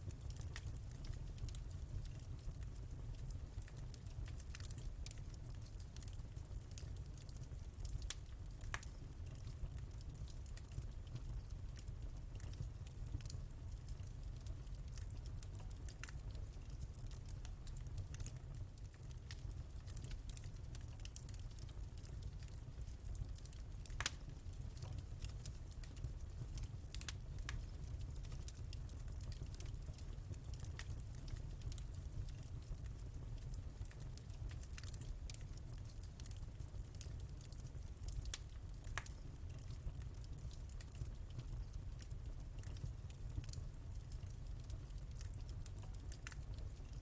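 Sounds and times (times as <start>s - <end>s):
fire crackles and pops: 0.0s - 47.0s
fire rumble: 0.0s - 47.0s.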